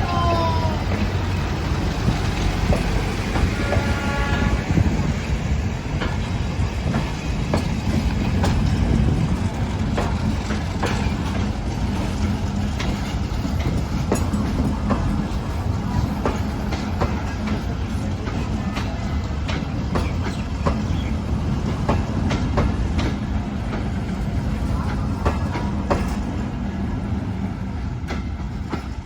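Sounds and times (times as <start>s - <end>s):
train rumbling: 0.0s - 29.0s
wheels clicking over rail joints: 0.0s - 29.0s.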